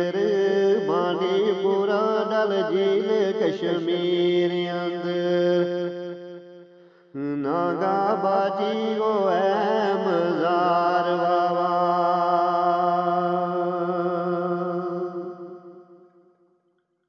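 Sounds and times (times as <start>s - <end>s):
man singing devotional verse: 0.0s - 15.9s.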